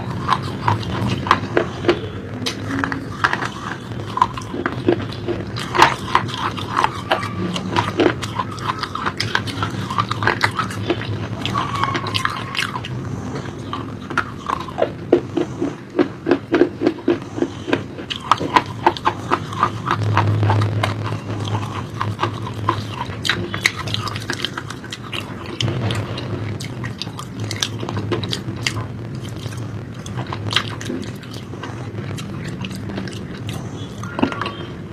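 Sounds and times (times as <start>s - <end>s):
wet mouth and swallowing sounds: 0.0s - 34.8s
crunchy food chewing: 0.0s - 34.9s.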